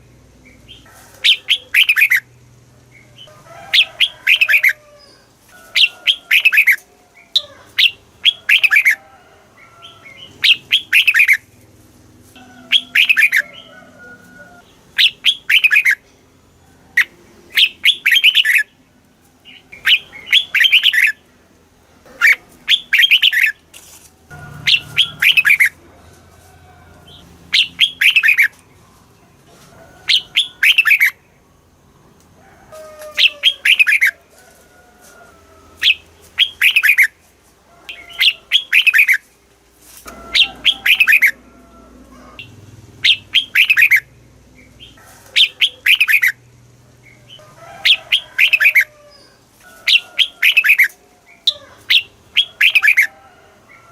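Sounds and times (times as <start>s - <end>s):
bird singing: 0.0s - 9.0s, 9.6s - 11.6s, 12.4s - 21.5s, 22.1s - 23.6s, 24.3s - 25.8s, 27.0s - 29.4s, 30.0s - 32.3s, 33.1s - 34.2s, 35.8s - 37.1s, 37.9s - 39.3s, 40.1s - 53.9s.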